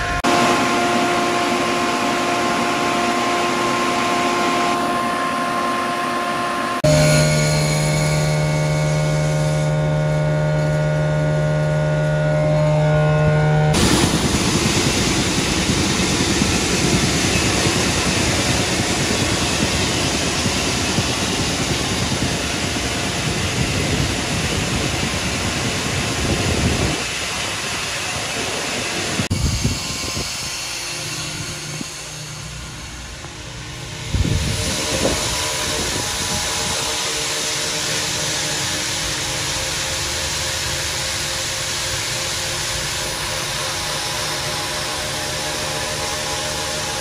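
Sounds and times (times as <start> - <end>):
fan humming: 0.0 - 47.0.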